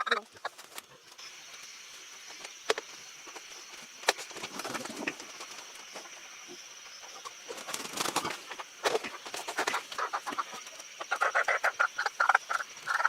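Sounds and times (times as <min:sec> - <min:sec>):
farmyard birds calling: 0:00.0 - 0:13.0.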